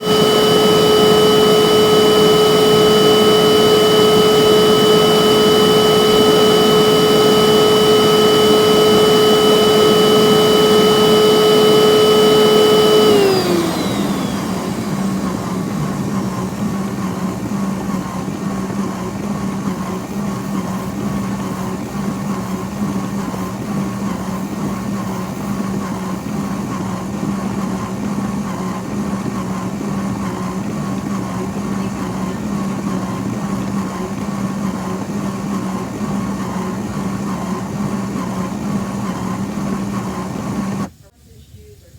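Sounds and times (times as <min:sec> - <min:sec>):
vacuum cleaner motor whine: 0:00.0 - 0:41.0.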